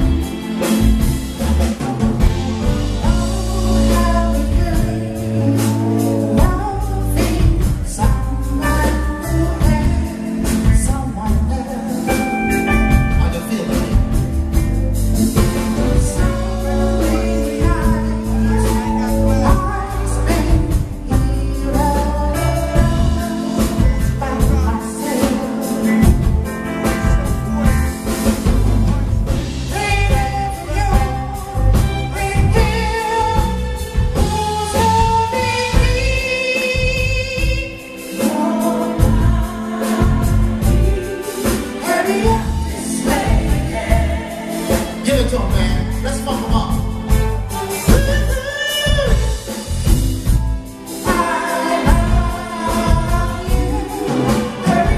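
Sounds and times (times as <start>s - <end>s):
electric bass: 0.0s - 37.8s, 38.7s - 54.9s
drums: 0.0s - 54.9s
keyboard: 0.0s - 54.9s
male lead singer: 0.0s - 54.9s.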